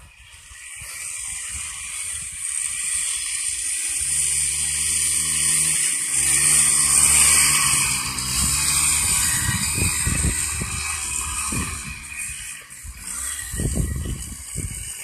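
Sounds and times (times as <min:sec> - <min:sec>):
quad bike engine: 0:00.0 - 0:15.0.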